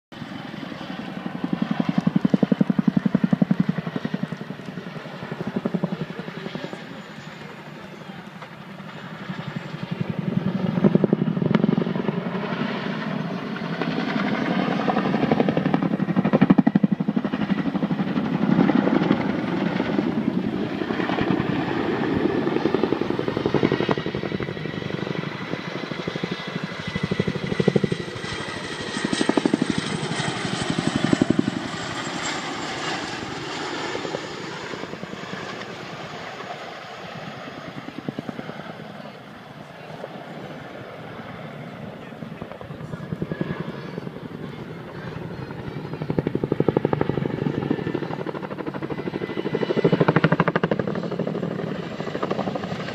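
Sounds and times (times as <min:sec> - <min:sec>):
helicopter rotor chopping: 0:00.1 - 0:52.9.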